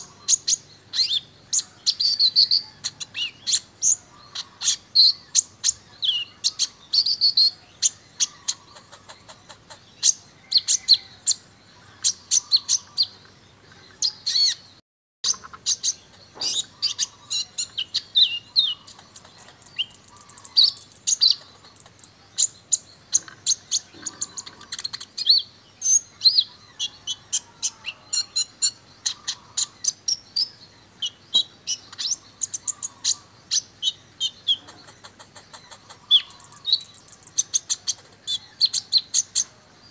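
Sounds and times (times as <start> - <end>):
bird chirping and trilling: 0.0 - 39.6.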